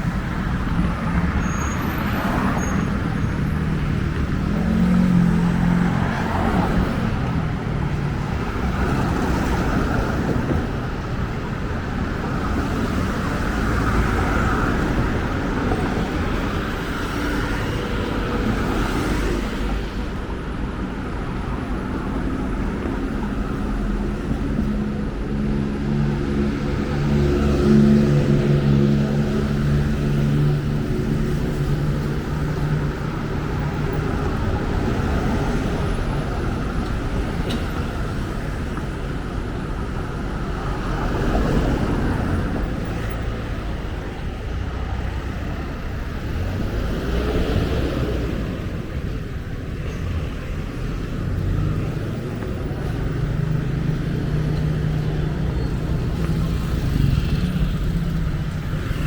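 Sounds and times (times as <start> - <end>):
passing road vehicles: 0.0 - 59.0.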